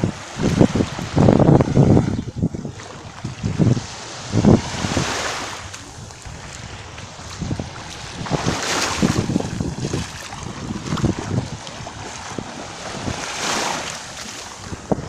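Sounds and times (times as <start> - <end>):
small waves washing onto beach: 0.0 - 15.0
wind buffeting microphone: 0.0 - 15.0.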